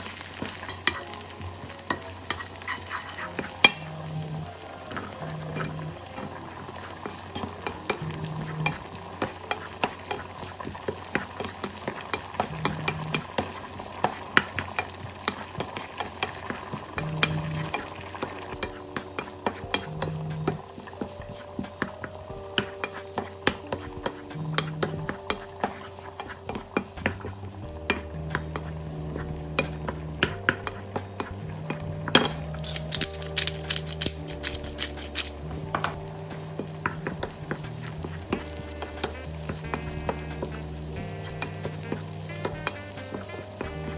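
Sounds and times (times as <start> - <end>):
food sizzling in a frying pan: 0.0 - 43.9
utensil scraping a pan: 0.0 - 43.9.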